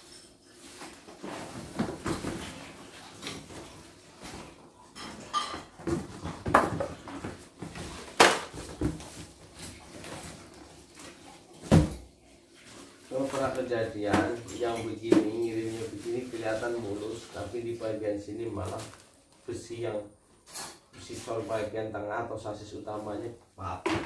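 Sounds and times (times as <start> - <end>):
plastic wrapping rustling: 0.0 - 21.8.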